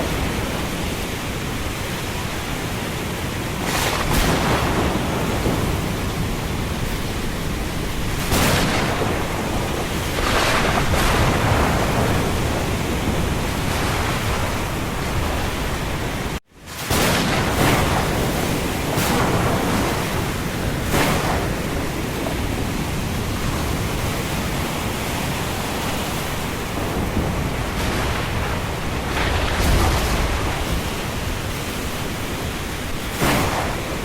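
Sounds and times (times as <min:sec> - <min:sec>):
gusting wind: 0:00.0 - 0:34.0
heavy rain: 0:00.0 - 0:34.0.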